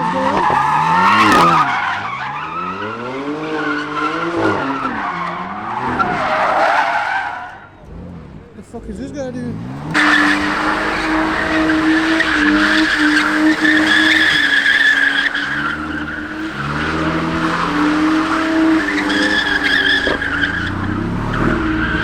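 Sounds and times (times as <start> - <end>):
car engine at high revs: 0.0 - 22.0
car tyres squealing: 0.0 - 22.0.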